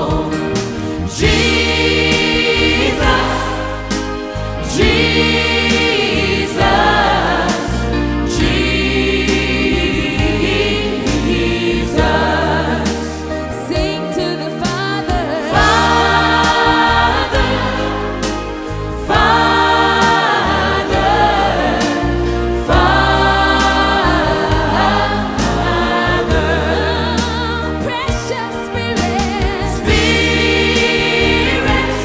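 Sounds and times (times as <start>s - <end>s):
choir singing held notes: 0.0s - 32.0s
instrumental backing with bass: 0.0s - 32.0s.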